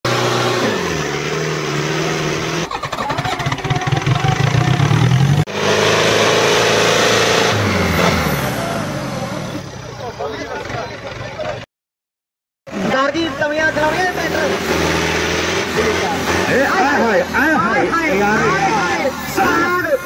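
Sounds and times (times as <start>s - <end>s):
tractor diesel engine under load: 0.0s - 11.7s, 12.7s - 20.0s.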